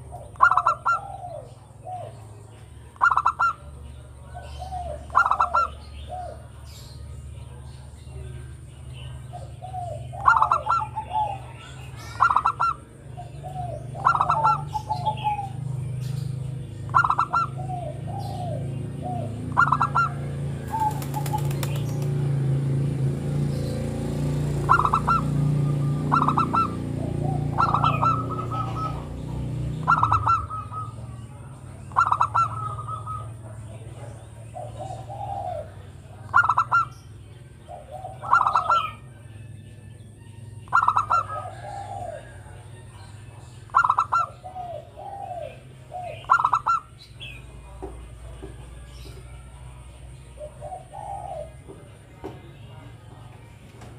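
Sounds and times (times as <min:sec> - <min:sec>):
dove cooing: 0:00.0 - 0:08.4, 0:09.0 - 0:22.4, 0:23.0 - 0:40.0, 0:40.6 - 0:52.4.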